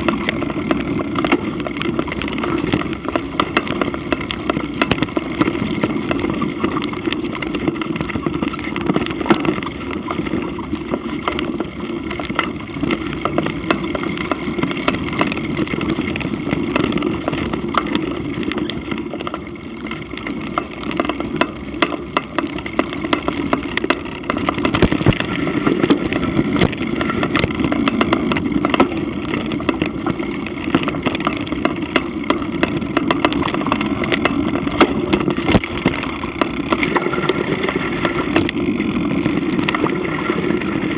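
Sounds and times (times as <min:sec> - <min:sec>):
bike rattling over rough ground: 0:00.0 - 0:40.9
tyre and wind noise: 0:00.0 - 0:40.9.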